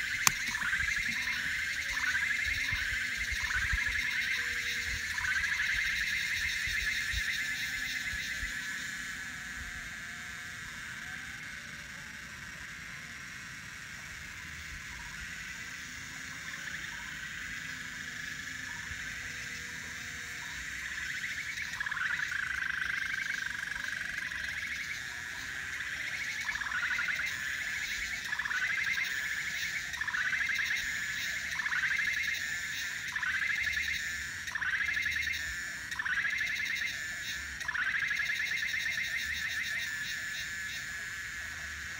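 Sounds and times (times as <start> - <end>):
chorus of calling animals: 0.0 - 41.9.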